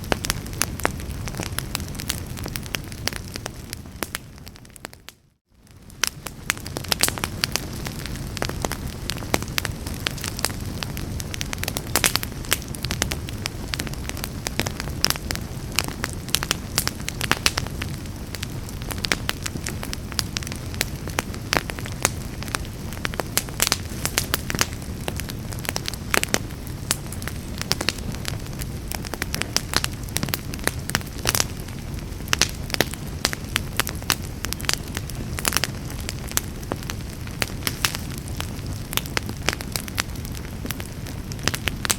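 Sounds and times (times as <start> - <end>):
fire crackles and pops: 0.0 - 41.9
wood fire burning: 0.0 - 41.9.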